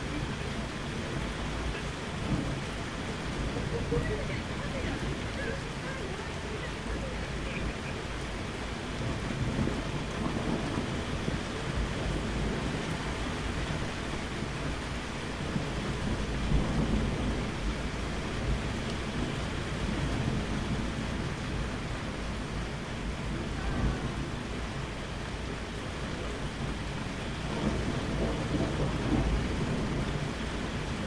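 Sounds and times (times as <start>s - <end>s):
low rolling thunder: 0.0s - 31.0s
steady rain: 0.0s - 31.0s.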